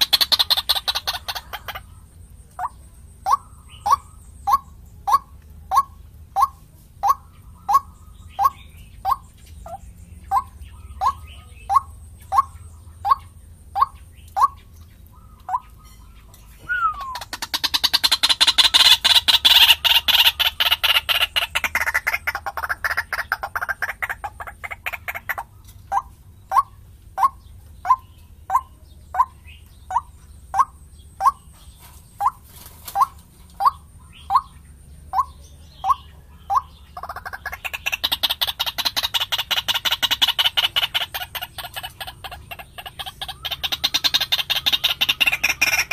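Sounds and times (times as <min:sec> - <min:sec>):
loud rapid bird chattering: 0:00.0 - 0:45.9.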